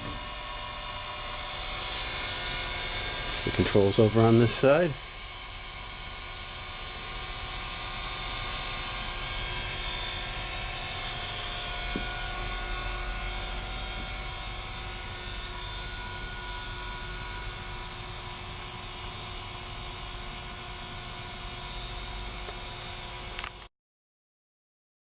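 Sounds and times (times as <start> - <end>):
grinder machine hum and whine: 0.0 - 23.7.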